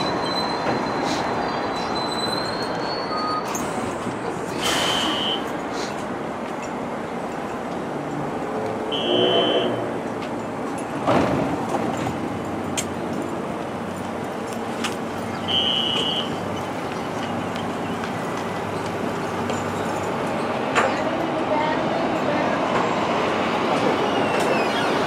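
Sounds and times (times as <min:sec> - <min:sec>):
subway station rumble: 0:00.0 - 0:25.0.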